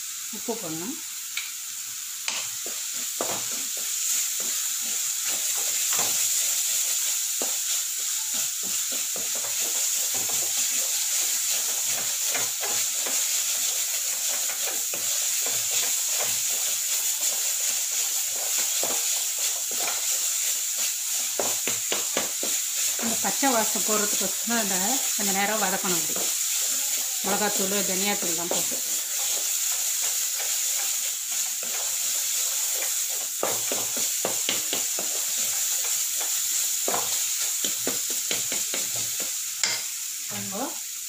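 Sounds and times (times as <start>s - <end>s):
food sizzling in a pan: 0.0s - 41.0s
spatula scraping a pan: 2.3s - 39.9s.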